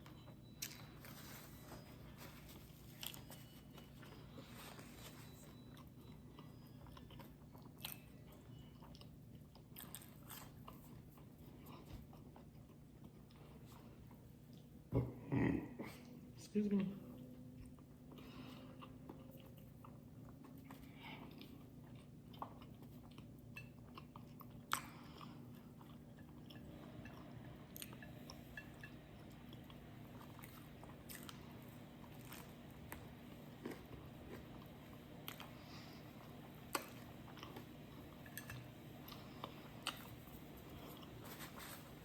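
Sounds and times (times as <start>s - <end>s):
chewing and biting food: 0.0s - 14.9s, 17.2s - 42.0s
steady low hum: 0.0s - 42.0s.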